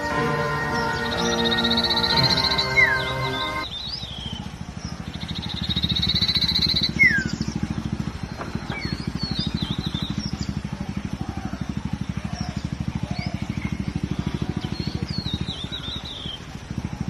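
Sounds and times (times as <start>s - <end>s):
bird singing: 0.0s - 17.0s.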